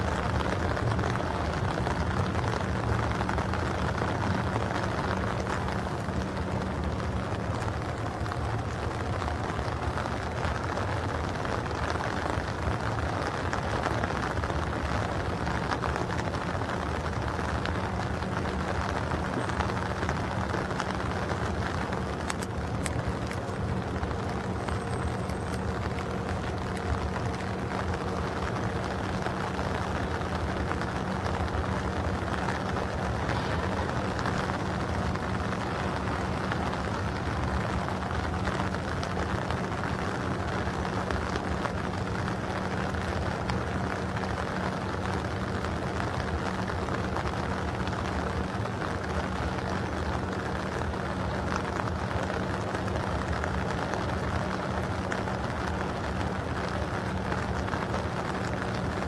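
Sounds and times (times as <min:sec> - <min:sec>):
low engine hum: 0:00.0 - 0:59.0
steady rain falling: 0:00.0 - 0:59.0.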